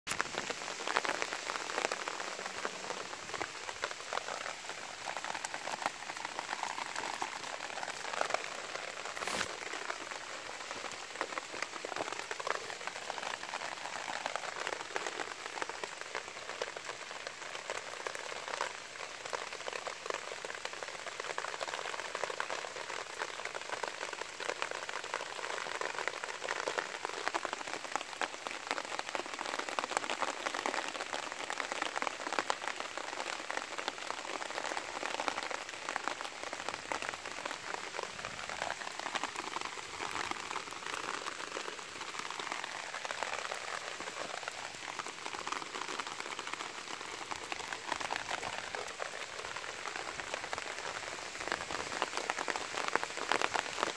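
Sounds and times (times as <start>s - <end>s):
light rain on concrete road: 0.0s - 53.9s.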